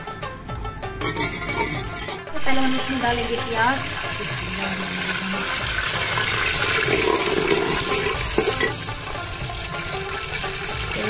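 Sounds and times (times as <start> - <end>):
onions sizzling in a pot: 1.0 - 11.0.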